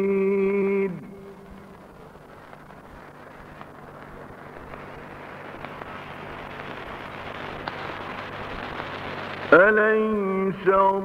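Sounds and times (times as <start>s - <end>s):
low recording hum: 0.0s - 11.0s.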